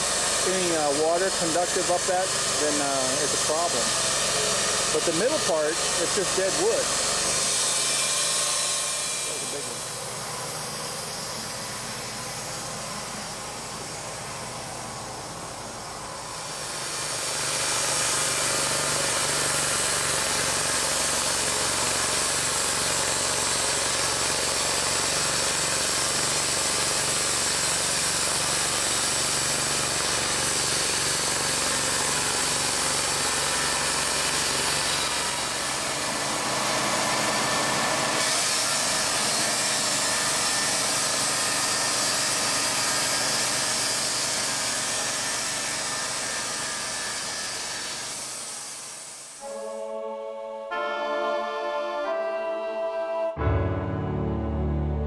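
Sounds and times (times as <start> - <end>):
bandsaw mill sawing log: 0.0 - 49.6.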